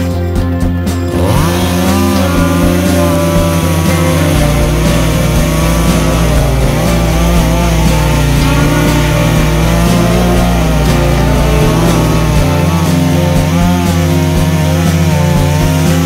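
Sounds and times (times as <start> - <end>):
chainsaw running at high revs: 1.0 - 16.0.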